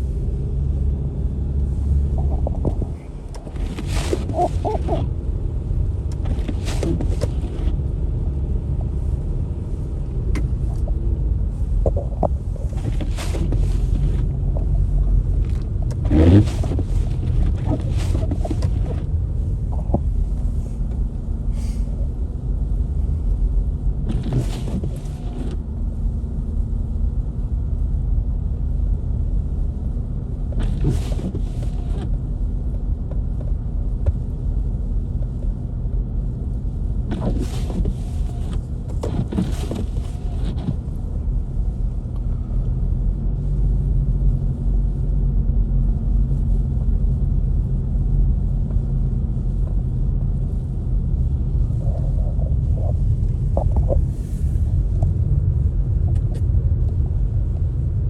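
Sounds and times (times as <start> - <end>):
highway traffic rumble: 0.0 - 58.0.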